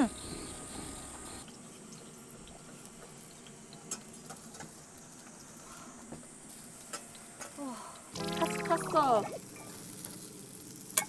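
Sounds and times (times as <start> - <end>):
food frying in a pan: 1.2 - 11.0.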